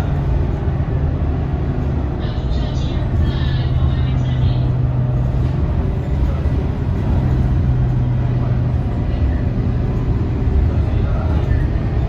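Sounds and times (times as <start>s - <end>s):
bus diesel engine humming: 0.0s - 12.0s
road and tyre noise: 0.0s - 12.0s.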